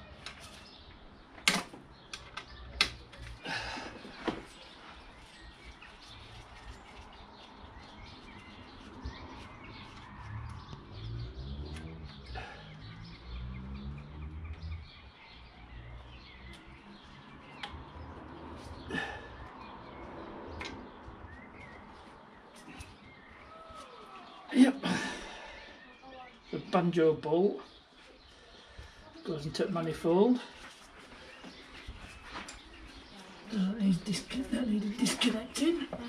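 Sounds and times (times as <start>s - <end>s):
faint bird chirping: 0.0s - 36.0s.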